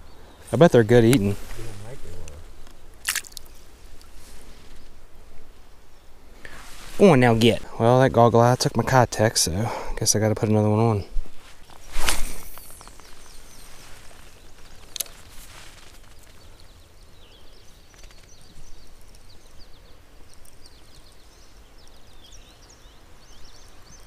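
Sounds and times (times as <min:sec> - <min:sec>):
small birds chirping: 0:00.0 - 0:05.0, 0:05.6 - 0:24.0.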